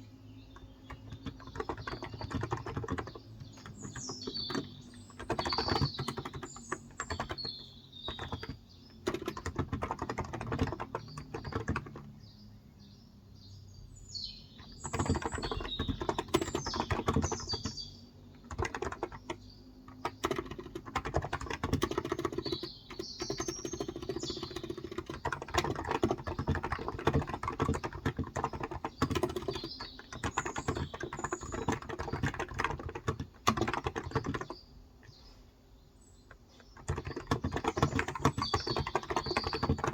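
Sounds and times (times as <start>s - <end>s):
birds chirping: 0.0s - 39.9s
typing on a keyboard: 0.4s - 12.2s, 14.6s - 35.2s, 36.2s - 39.9s.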